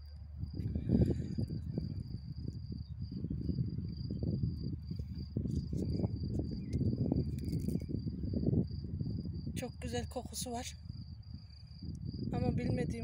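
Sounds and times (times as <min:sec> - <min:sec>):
cricket trilling: 0:00.0 - 0:13.0
low rumble near microphone: 0:00.0 - 0:13.0.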